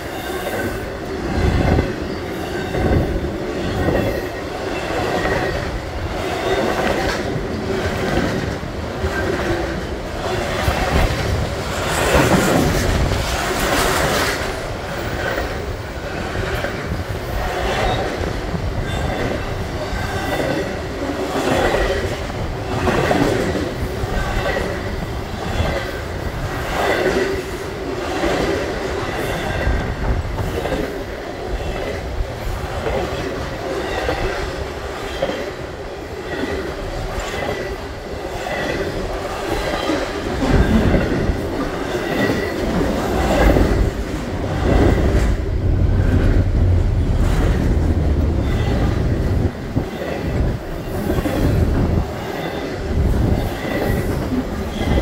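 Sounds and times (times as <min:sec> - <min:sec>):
steel wheels rushing on rail: 0:00.0 - 0:55.0.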